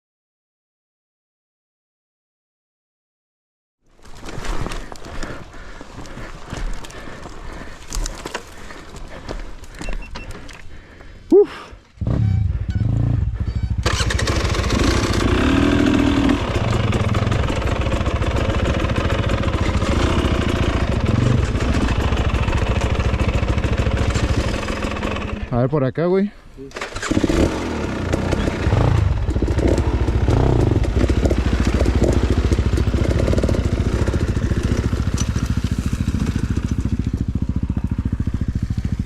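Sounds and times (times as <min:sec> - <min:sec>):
dirt bike engine running: 0:04.0 - 0:25.6, 0:26.8 - 0:39.0.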